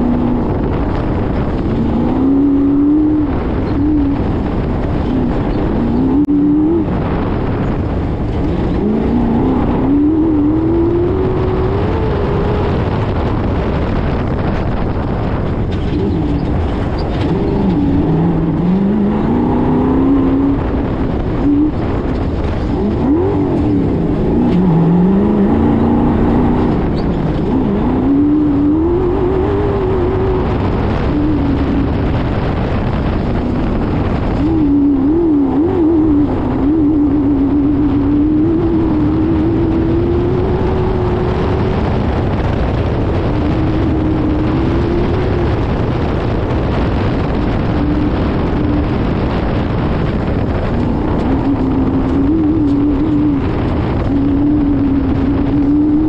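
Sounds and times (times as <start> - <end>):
race car engine revving: 0.0 - 56.0
wind and road noise: 0.0 - 56.0.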